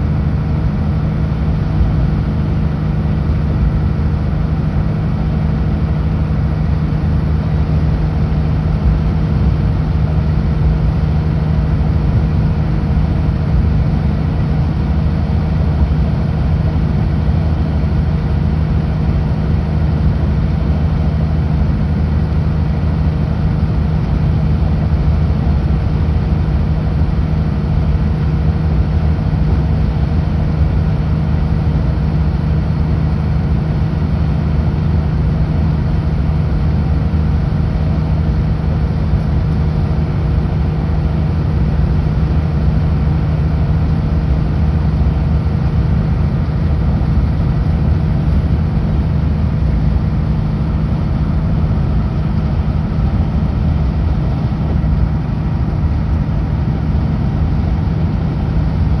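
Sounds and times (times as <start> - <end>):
road and wind noise: 0.0 - 59.0
truck diesel engine droning: 0.0 - 59.0.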